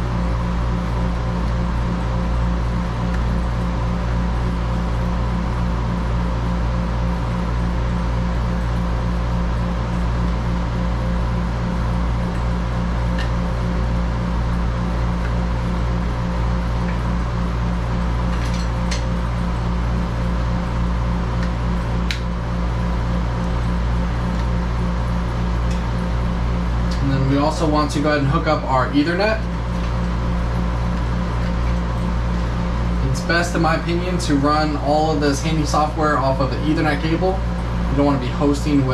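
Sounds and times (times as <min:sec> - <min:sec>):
throbbing machine hum: 0:00.0 - 0:38.9.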